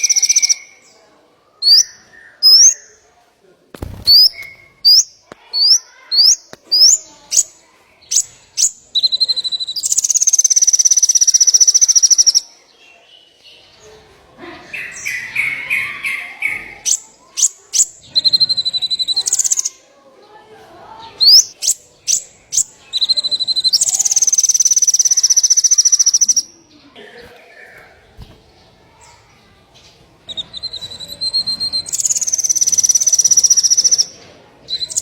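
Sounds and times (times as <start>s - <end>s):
songbird chirping and trilling: 0.0s - 3.2s, 3.9s - 35.0s.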